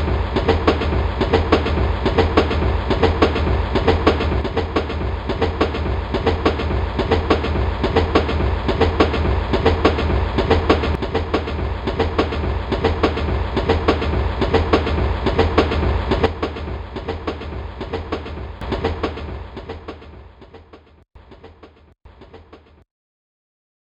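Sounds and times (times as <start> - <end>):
train rumble: 0.0 - 22.8
train wheels clattering: 0.0 - 22.8.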